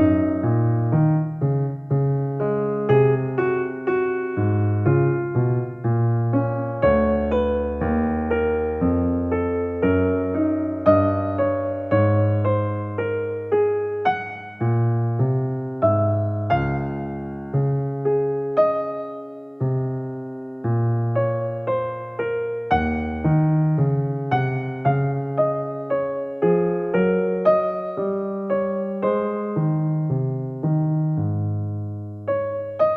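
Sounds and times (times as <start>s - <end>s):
slow piano melody: 0.0s - 32.9s.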